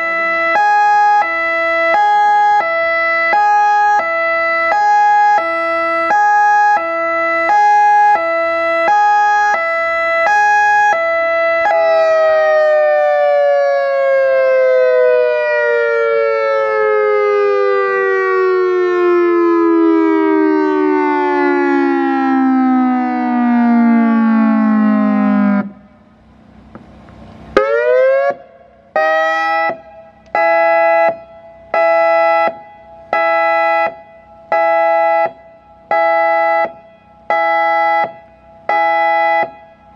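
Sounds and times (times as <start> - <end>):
electronic warning siren: 0.0 - 39.9.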